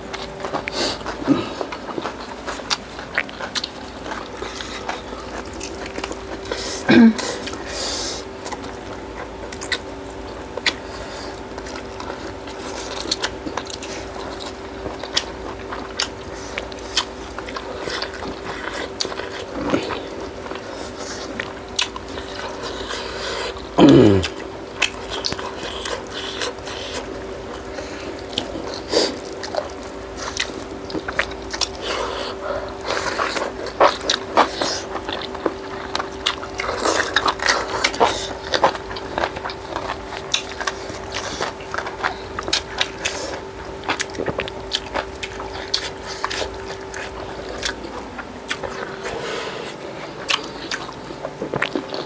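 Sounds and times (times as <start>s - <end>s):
wet chewing and mouth smacks: 0.0s - 6.8s, 7.4s - 52.0s
steady low hum: 0.0s - 52.0s.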